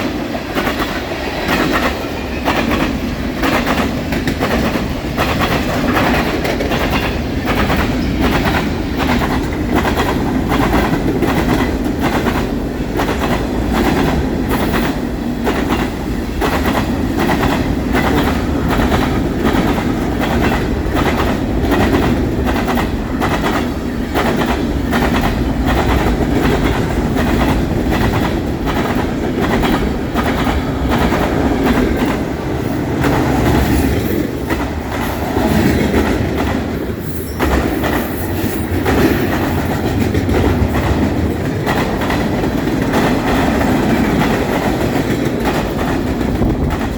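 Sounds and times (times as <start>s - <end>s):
freight train rolling past: 0.0s - 46.9s
train wheels clacking: 0.0s - 46.9s.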